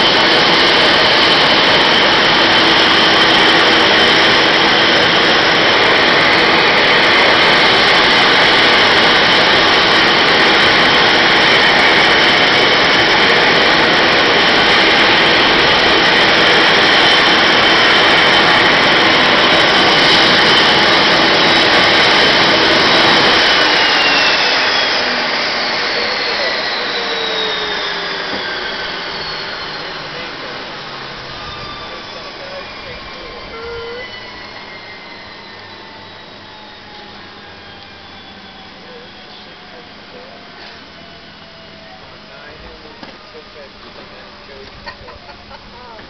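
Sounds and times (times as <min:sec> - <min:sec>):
turboprop engines whining: 0:00.0 - 0:46.0.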